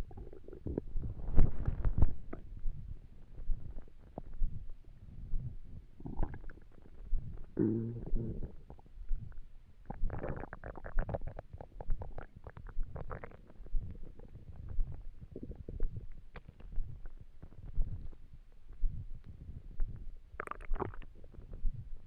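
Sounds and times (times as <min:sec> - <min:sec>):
stomach rumbling and gurgling: 0:00.0 - 0:22.0.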